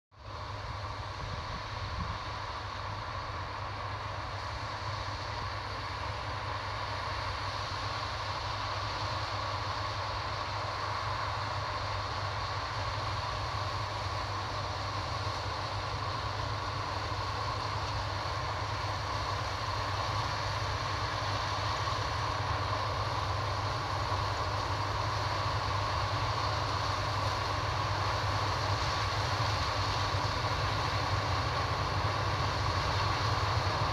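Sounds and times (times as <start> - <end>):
combine harvester droning: 0.4 - 33.9.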